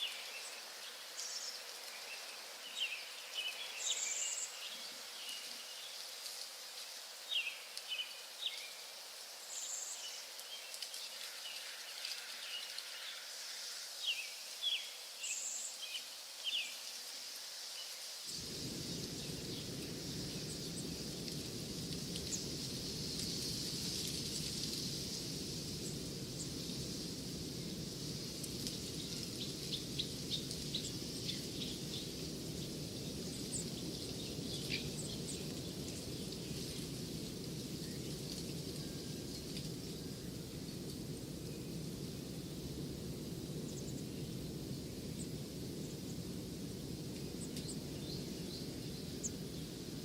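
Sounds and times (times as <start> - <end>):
low even noise: 0.0 - 50.0
small birds chirping: 0.0 - 50.0
steady high hiss: 0.0 - 50.0.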